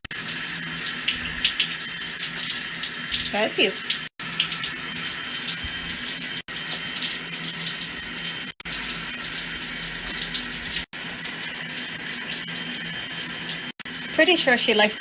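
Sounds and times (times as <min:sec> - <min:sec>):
shower water spraying: 0:00.1 - 0:15.0.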